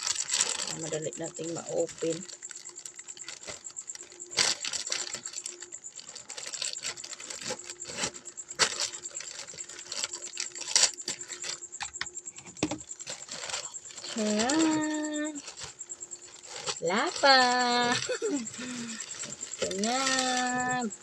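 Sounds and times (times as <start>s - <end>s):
packaging crinkling and scraping: 0.0s - 21.0s.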